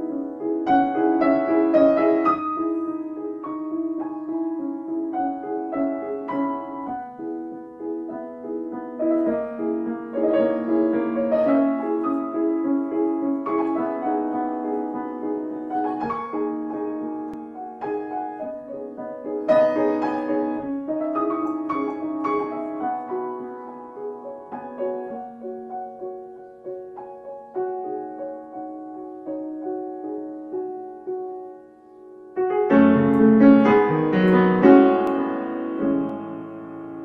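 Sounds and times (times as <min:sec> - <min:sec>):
grand piano playing chords: 0:00.0 - 0:37.0.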